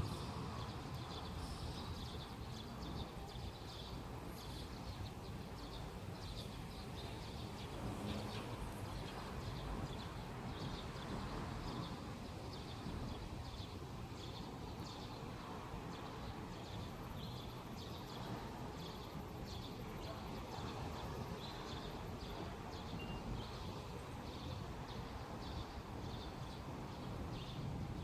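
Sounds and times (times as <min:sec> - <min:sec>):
small birds chirping: 0:00.0 - 0:27.8.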